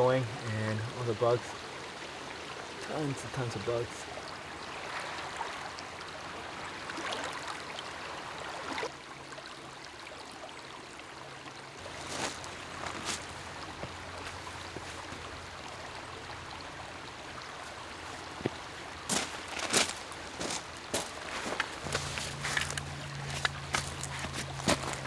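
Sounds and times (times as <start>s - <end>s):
water lapping against shore: 0.9s - 8.9s, 11.8s - 25.0s.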